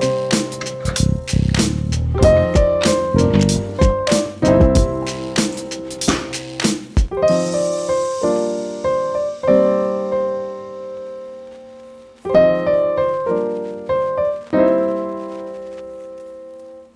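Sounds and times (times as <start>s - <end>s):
slow piano chords: 0.0s - 1.5s, 2.1s - 16.6s.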